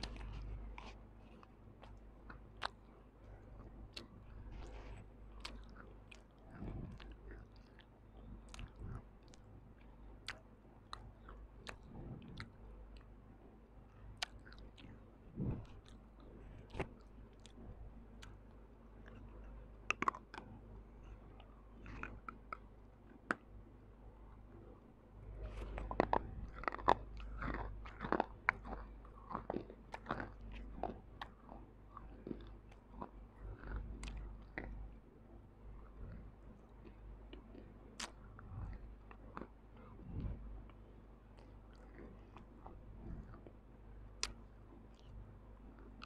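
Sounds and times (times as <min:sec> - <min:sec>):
chewing mouth sounds: 0:00.0 - 0:13.2, 0:14.0 - 0:23.5, 0:25.3 - 0:34.9, 0:35.7 - 0:46.0.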